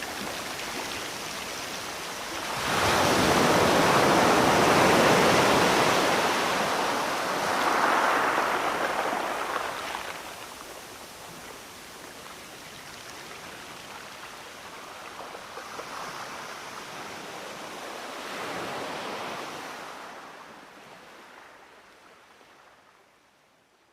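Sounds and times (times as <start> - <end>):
sea waves washing ashore: 0.0 - 22.0.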